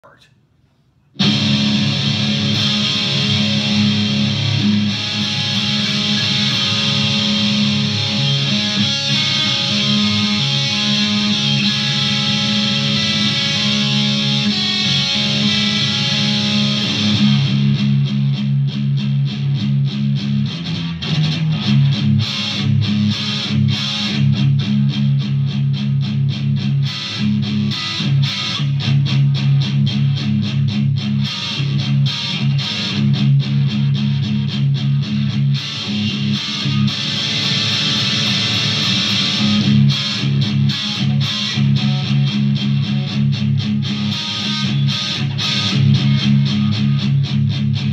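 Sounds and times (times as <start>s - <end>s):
electric guitar with effects: 1.1s - 47.9s.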